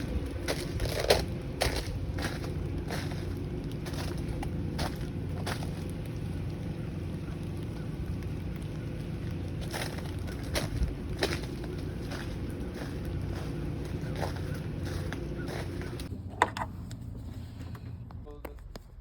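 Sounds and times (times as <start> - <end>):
ice and frozen snow crunching: 0.0 - 16.1
steady low rumble: 0.0 - 19.0.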